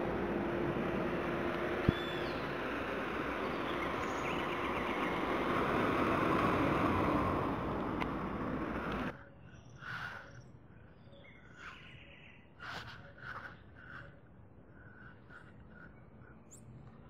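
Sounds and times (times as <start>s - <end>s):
birds chirping: 0.0s - 17.0s
faint outdoor background noise: 0.0s - 17.0s.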